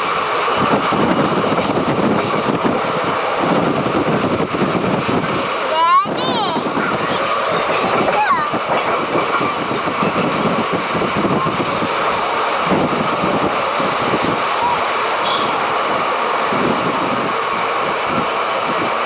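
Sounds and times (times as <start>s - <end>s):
train rumbling and rattling: 0.0s - 19.0s
wind noise on microphone: 0.0s - 19.0s.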